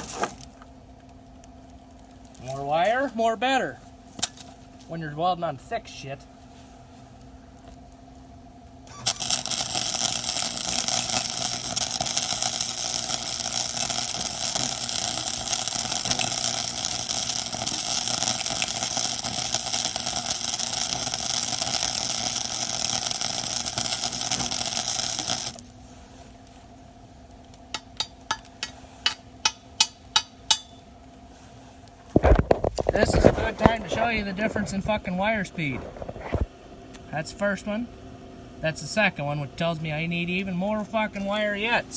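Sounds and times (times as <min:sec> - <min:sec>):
welder arc crackling and hissing: 0:00.0 - 0:41.9.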